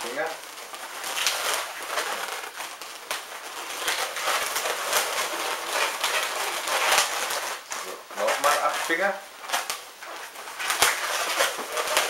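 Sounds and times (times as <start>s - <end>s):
balloons rubbing and crackling: 0.0s - 12.0s.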